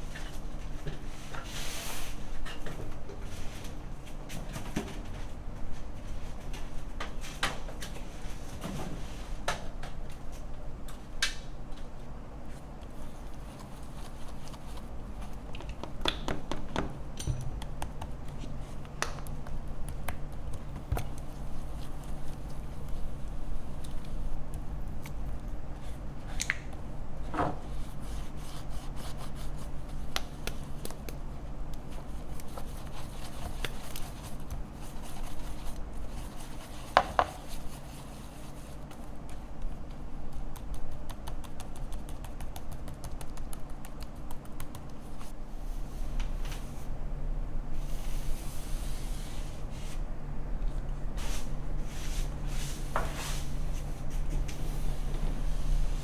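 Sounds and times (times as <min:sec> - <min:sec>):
steady low hum: 0:02.2 - 0:56.0.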